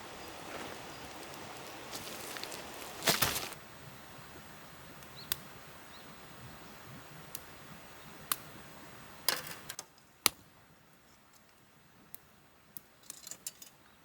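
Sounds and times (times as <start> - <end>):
wood fire crackling: 0.0 - 13.6
faint background hiss: 0.0 - 14.0.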